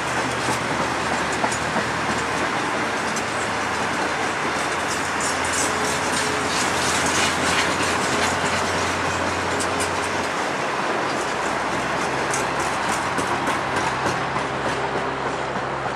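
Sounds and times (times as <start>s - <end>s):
train wheels rumbling on rails: 0.0s - 15.9s.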